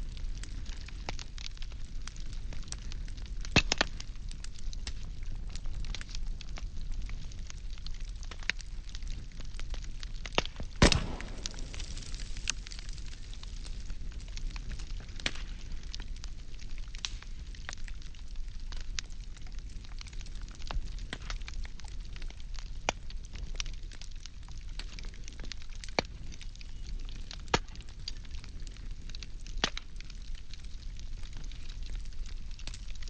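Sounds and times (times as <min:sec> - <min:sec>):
wood fire crackling and popping: 0:00.0 - 0:33.0.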